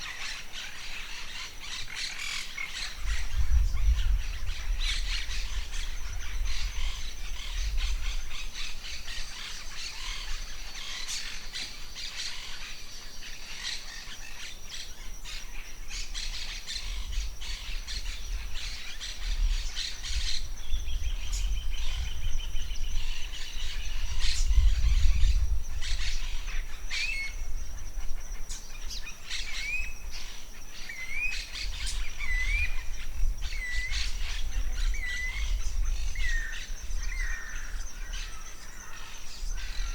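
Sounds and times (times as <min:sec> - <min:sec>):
birds chirping and calling: 0:00.0 - 0:39.9
wind rumble on microphone: 0:00.0 - 0:39.9.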